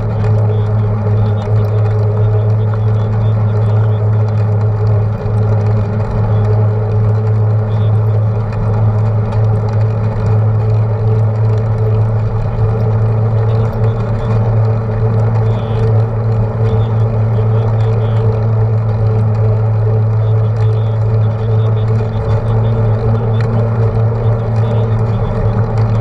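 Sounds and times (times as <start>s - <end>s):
bicycle tyre humming on asphalt: 0.0s - 26.0s
wind rumble on microphone: 0.0s - 26.0s.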